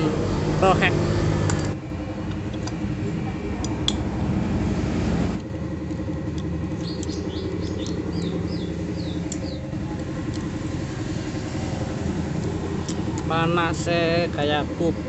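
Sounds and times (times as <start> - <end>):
motorcycle engine idling rough: 0.0 - 15.0.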